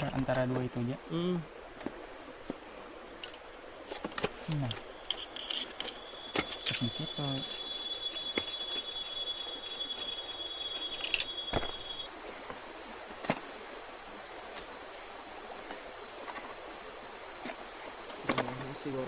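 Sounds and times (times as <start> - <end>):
insect chorus: 0.0 - 19.0
soft background hiss: 0.0 - 19.0.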